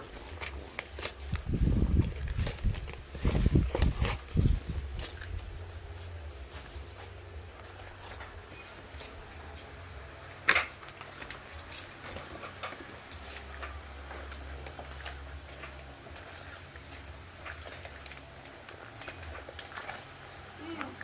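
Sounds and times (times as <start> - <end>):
packaging rustling and clicking: 0.0 - 9.8, 10.4 - 21.0.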